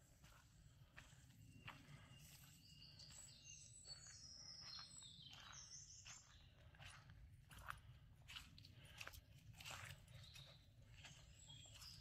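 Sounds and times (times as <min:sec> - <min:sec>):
footsteps on dirt: 0:00.0 - 0:12.0.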